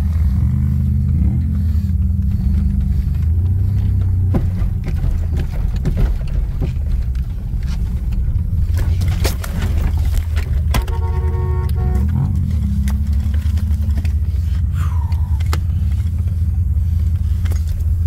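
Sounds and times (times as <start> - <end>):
vehicle engine rumbling: 0.0 - 18.0
knocks and rattles: 2.0 - 18.0.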